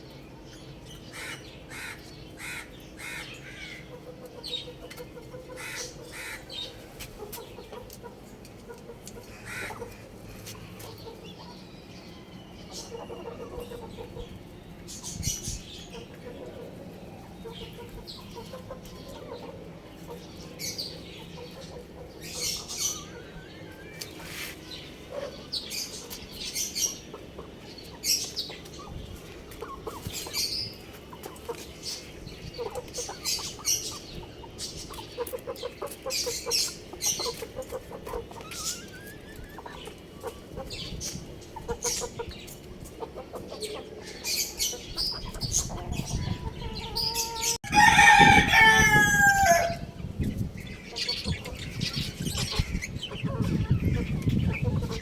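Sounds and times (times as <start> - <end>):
chickens clucking: 0.0 - 55.0
young chickens chirping: 0.0 - 55.0.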